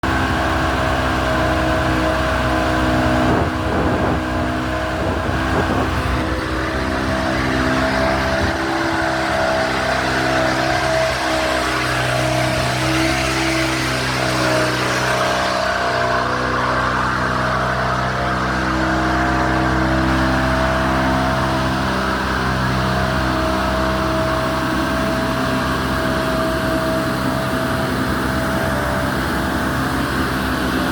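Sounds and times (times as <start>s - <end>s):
engine running steadily: 0.0s - 30.9s
steady whine: 0.0s - 30.9s
machine droning with rushing hiss: 0.1s - 30.9s.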